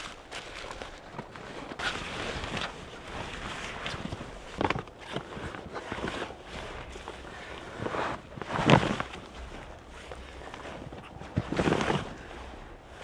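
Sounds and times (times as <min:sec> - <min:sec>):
rustling of camping gear: 0:00.0 - 0:13.0.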